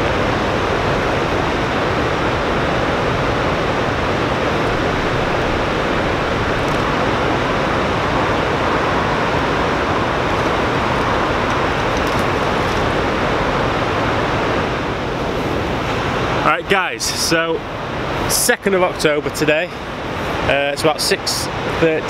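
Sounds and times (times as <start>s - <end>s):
turbulent river water rushing: 0.0s - 22.0s.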